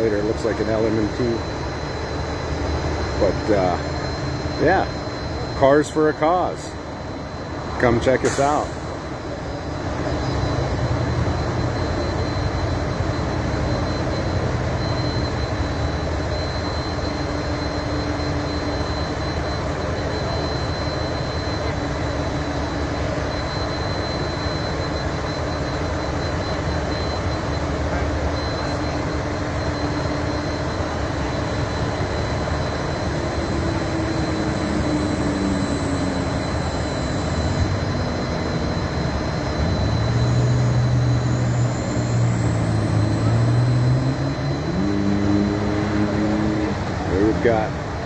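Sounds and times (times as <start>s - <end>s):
fire truck engine: 0.0s - 48.0s.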